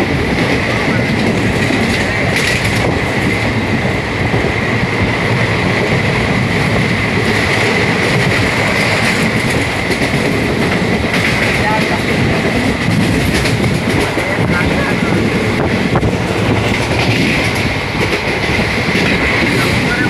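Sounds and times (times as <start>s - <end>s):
train roaring on rails: 0.0s - 20.0s.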